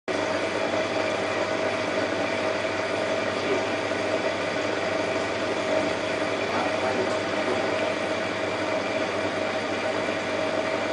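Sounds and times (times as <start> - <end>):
pump hum: 0.1 - 10.9.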